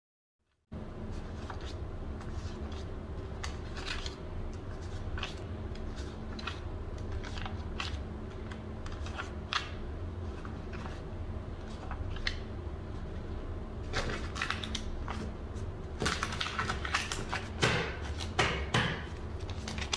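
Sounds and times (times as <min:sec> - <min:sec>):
low hum: 0:00.7 - 0:17.4
banknotes rustling: 0:01.0 - 0:18.4, 0:19.0 - 0:19.9.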